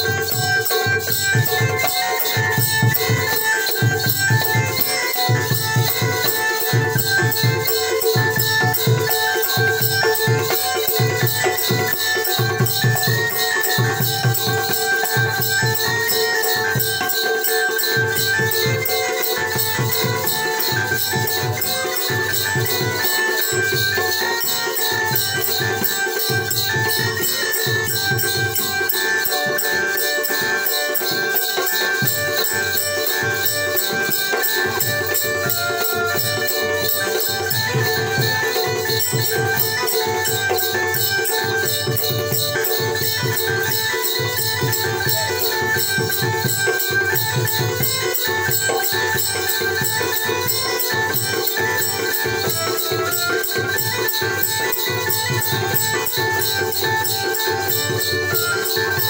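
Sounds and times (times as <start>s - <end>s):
hand drum beating: 0.0s - 59.0s
metallic jingle: 0.0s - 59.0s.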